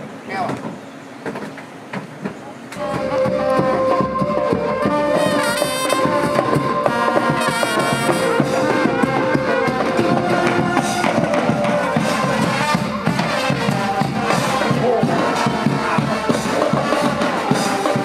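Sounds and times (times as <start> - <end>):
drum and percussion hits: 0.4 - 18.0
brass band playing: 2.8 - 18.0.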